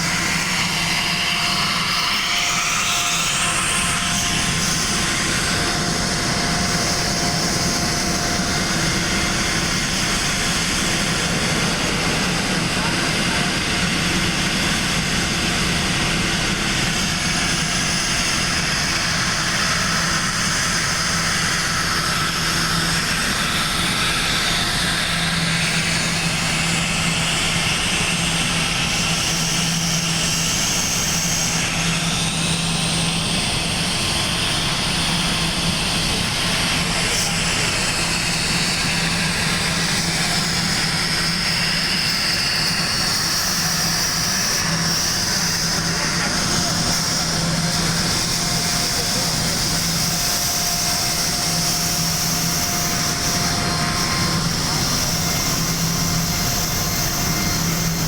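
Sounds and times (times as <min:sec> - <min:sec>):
air compressor running: 0:00.0 - 0:58.0.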